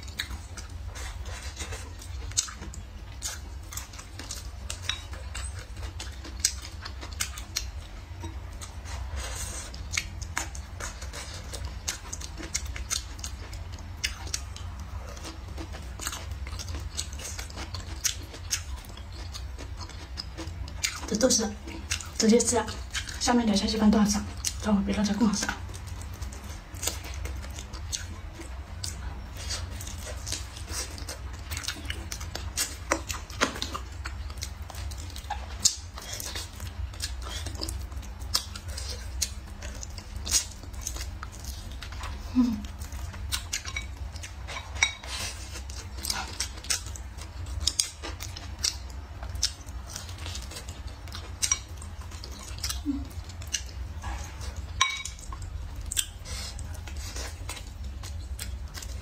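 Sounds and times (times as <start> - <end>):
person chewing meat: 0.0 - 23.4, 24.1 - 24.7, 25.4 - 59.0
low steady hum: 0.0 - 59.0.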